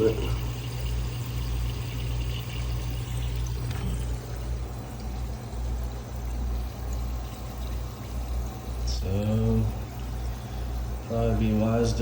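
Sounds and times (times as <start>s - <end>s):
steady low hum: 0.0s - 12.0s
water trickling: 0.0s - 12.0s.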